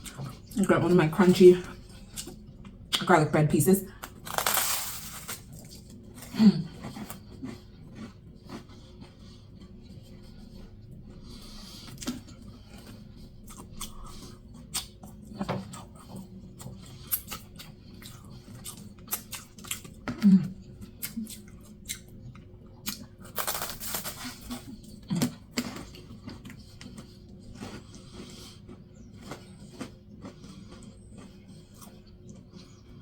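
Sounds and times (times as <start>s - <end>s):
wet chewing and lip smacking: 1.7s - 3.1s, 5.3s - 23.3s, 24.0s - 33.0s
crunching food: 4.0s - 9.8s, 11.4s - 33.0s.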